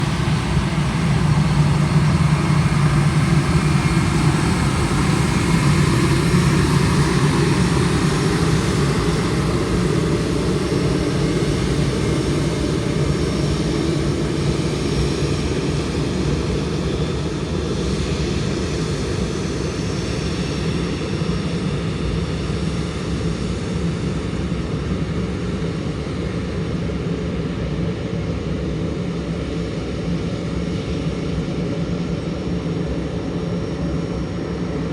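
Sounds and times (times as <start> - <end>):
jet engines rumbling with whine: 0.0 - 34.9.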